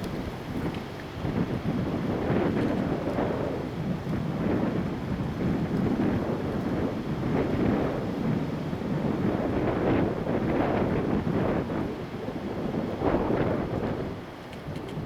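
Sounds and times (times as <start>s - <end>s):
gusting wind on microphone: 0.0s - 15.0s.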